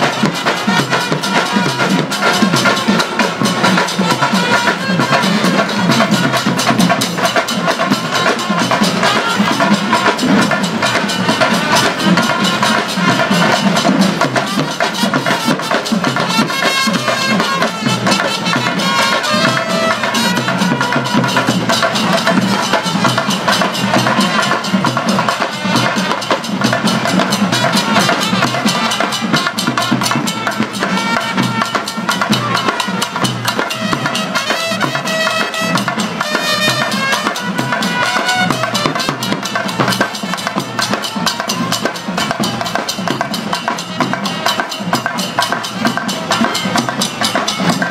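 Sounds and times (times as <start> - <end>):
many drums beating fast: 0.0 - 47.9.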